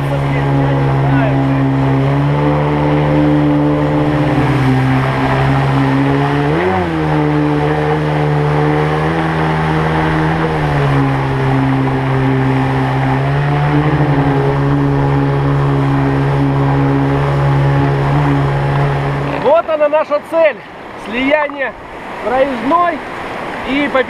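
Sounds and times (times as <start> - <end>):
outboard engine running: 0.0 - 24.0
rushing water: 0.0 - 24.0.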